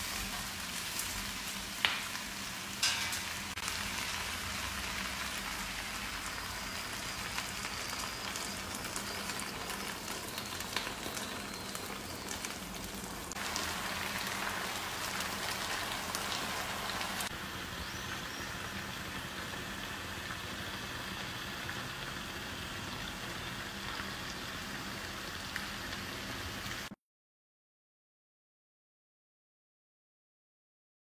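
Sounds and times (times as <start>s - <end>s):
sauce sizzling in a hot pan: 0.0s - 26.9s.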